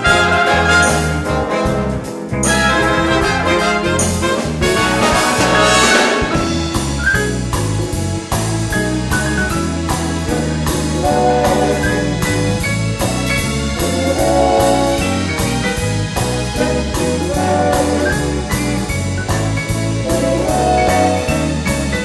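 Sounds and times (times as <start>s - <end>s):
music with drum beat and bass: 0.0s - 22.0s.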